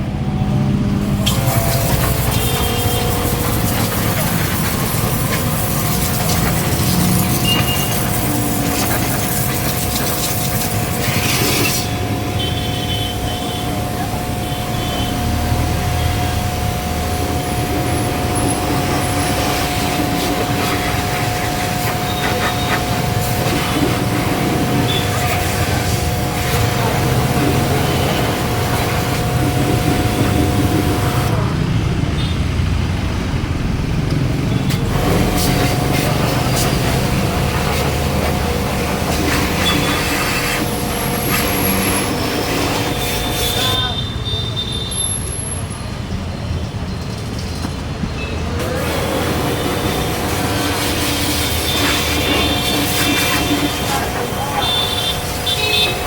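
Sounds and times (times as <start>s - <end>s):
pressure washer humming: 0.0s - 44.0s, 48.5s - 56.0s
water jet hissing: 1.0s - 31.6s, 34.2s - 44.0s, 48.4s - 56.0s.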